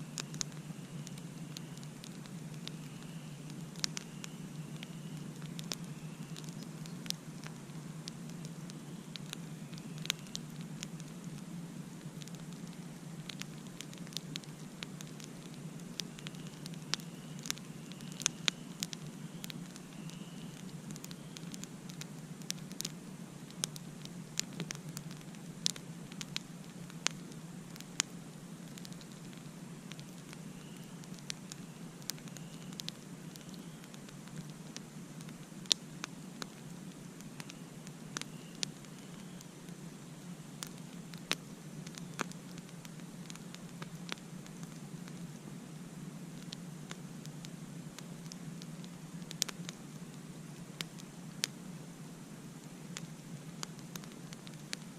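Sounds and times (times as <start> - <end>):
burning wood popping: 0.0 - 51.8, 52.4 - 54.9
campfire crackling: 0.0 - 54.9.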